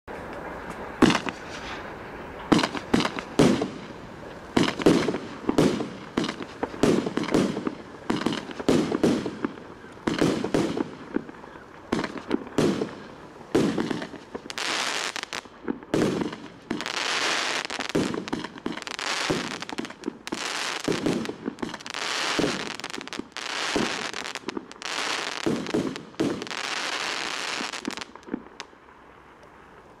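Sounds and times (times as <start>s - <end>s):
fireworks crackling bursts: 0.1s - 30.0s
fireworks deep bangs: 1.0s - 1.8s, 2.5s - 28.4s.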